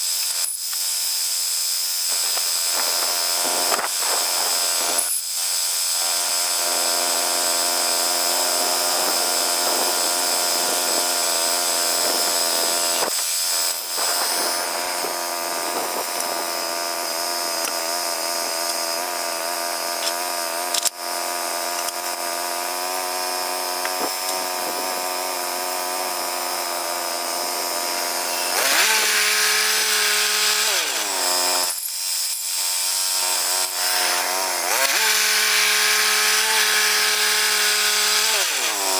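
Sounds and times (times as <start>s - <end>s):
saw blade whine: 0.0s - 38.9s
bandsaw mill engine running: 2.1s - 38.9s.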